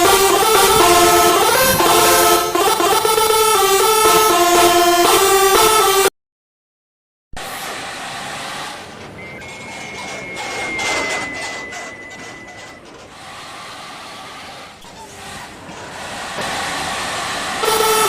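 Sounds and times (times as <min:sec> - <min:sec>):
road vehicle noise: 0:00.0 - 0:06.1, 0:07.4 - 0:18.0.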